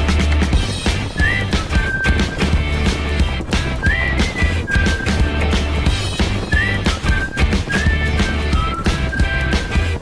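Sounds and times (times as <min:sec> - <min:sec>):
music with heavy bass and drums: 0:00.0 - 0:10.0.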